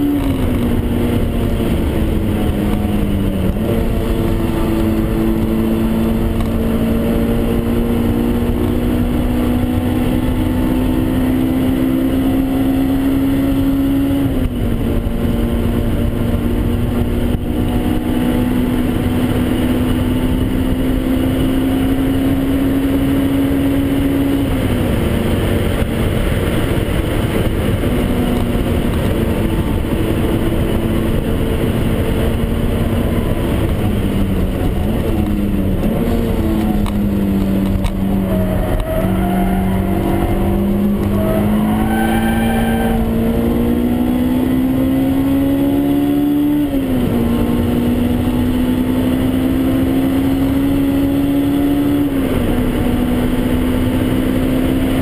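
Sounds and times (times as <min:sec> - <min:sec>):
car engine at high revs: 0:00.0 - 0:55.0
wind and road noise: 0:00.0 - 0:55.0.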